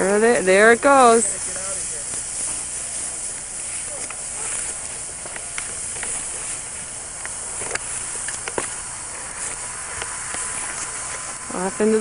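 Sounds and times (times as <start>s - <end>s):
steady hiss: 0.0s - 12.0s
dry grass and twigs crackling: 0.2s - 12.0s.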